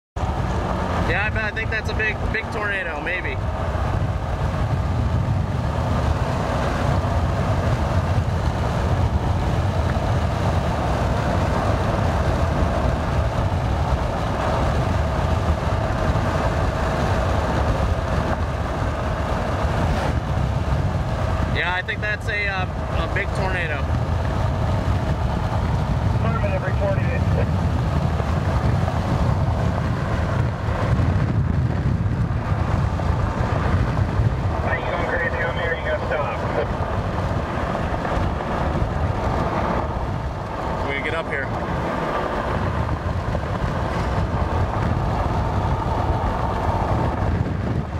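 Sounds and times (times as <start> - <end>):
vehicle interior road rumble: 0.2 - 47.9
wind buffeting microphone: 0.2 - 47.9.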